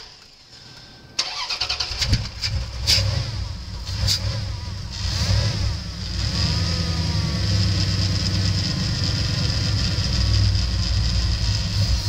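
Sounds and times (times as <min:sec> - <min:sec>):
car engine idling: 0:01.2 - 0:12.0.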